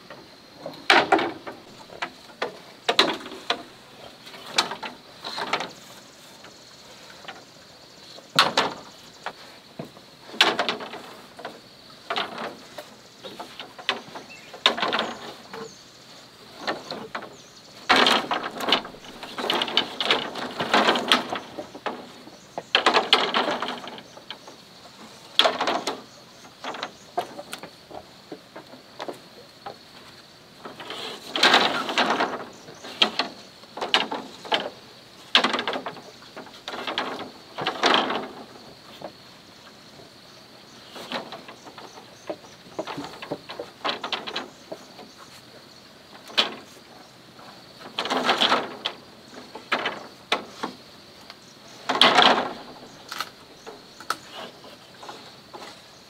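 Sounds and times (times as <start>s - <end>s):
bamboo poles knocking and creaking: 0.0s - 56.0s.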